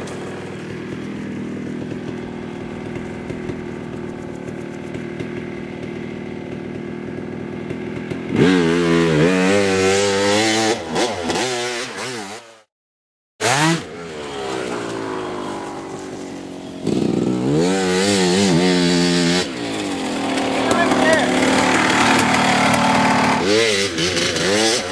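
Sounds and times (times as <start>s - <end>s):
dirt bike engine revving: 0.0s - 12.7s, 13.4s - 24.9s.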